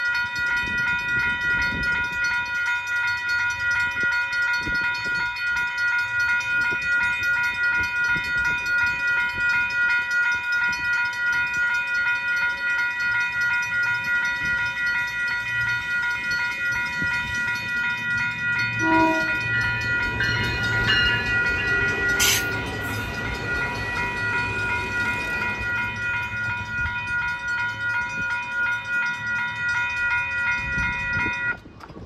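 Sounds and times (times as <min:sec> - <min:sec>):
high-pitched ringing: 0:00.0 - 0:31.7
train passing: 0:00.0 - 0:32.0.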